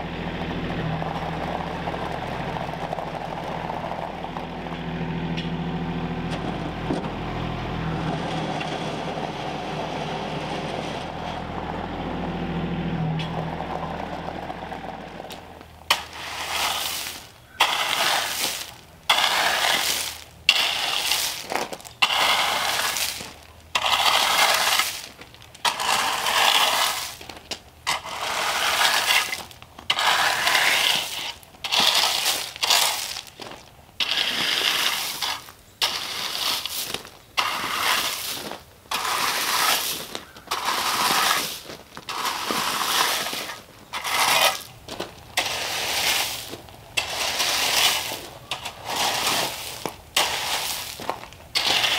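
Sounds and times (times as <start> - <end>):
rake scraping through gravel: 0.2 - 51.9.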